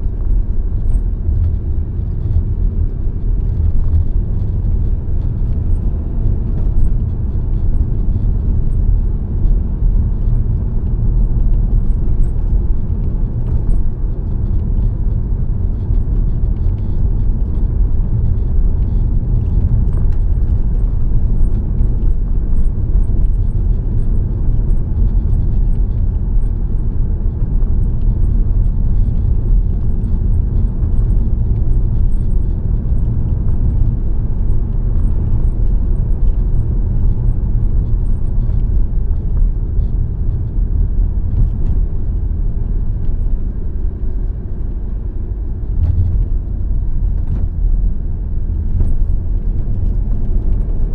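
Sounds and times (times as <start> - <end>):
car road and wind noise: 0.0 - 50.9.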